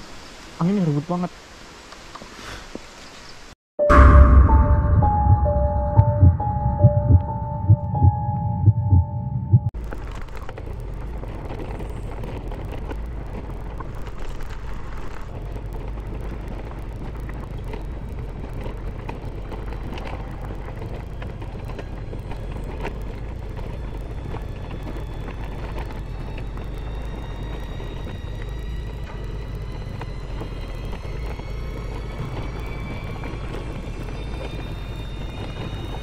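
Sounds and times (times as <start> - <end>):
throbbing hum: 3.8 - 36.0
motorcycle engine rumbling: 3.9 - 36.0.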